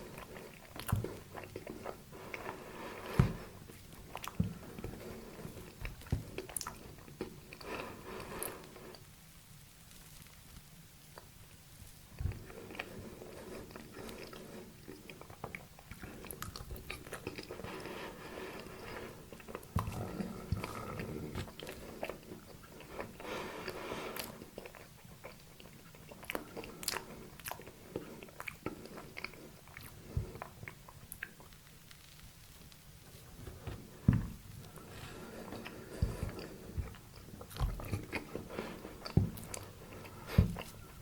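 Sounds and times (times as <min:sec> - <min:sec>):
chewing soft cake: 0:00.0 - 0:41.0.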